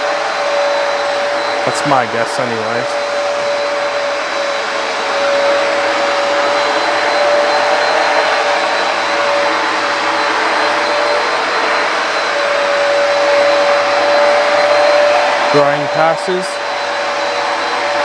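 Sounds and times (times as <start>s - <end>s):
carpet cleaner motor whining: 0.0s - 18.0s.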